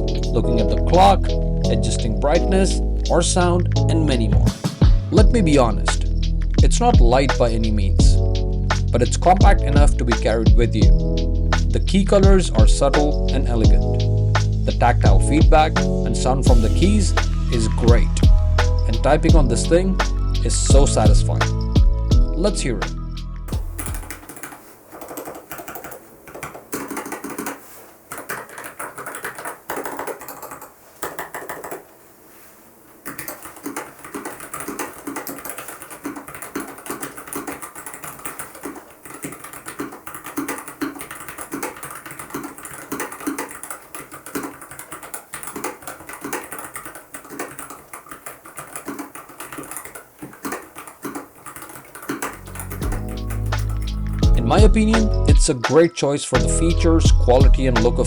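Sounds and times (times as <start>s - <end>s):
mechanical keyboard typing: 0.0s - 3.8s, 4.5s - 22.5s, 23.5s - 31.9s, 33.0s - 55.4s.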